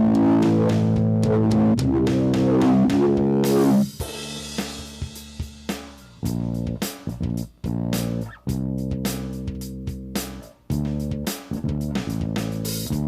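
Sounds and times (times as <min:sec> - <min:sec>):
band playing chord stabs: 0:00.0 - 0:13.0.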